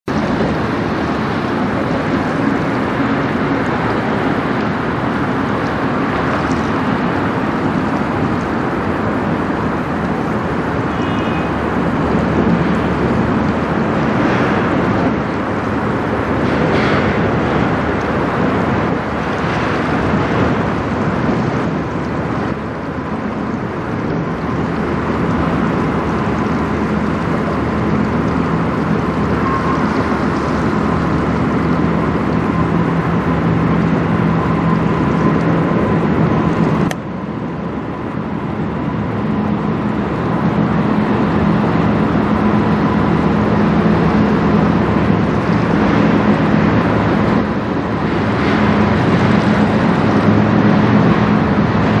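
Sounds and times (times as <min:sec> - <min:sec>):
ship engine hum: 0:00.0 - 0:52.0
water rushing along hull: 0:00.0 - 0:52.0.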